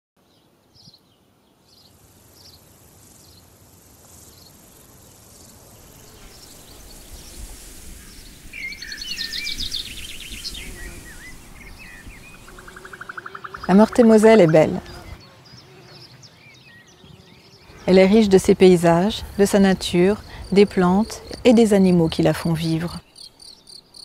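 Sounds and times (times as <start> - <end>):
birds chirping and trilling: 0.2 - 3.6, 4.2 - 24.0.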